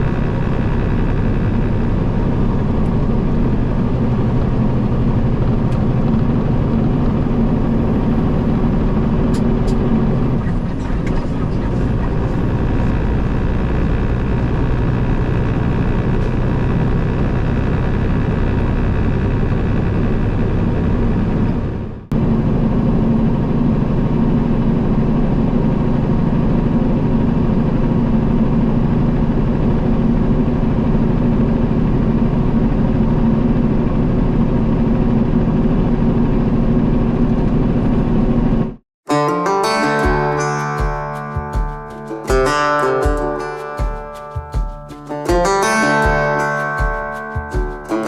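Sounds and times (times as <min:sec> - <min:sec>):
truck diesel engine running: 0:00.0 - 0:38.8, 0:39.7 - 0:48.0.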